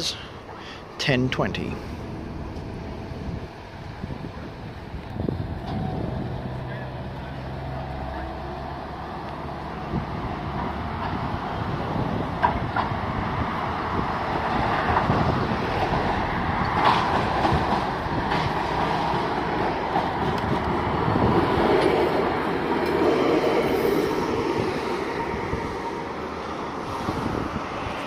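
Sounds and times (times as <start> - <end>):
tram wheels rumbling on rails: 0.0 - 28.0
tram knocks: 1.8 - 25.1.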